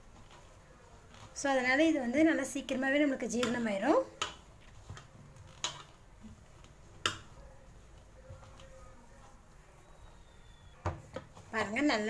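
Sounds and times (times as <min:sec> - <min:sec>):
dough kneaded by hand in bowl: 0:00.0 - 0:12.0.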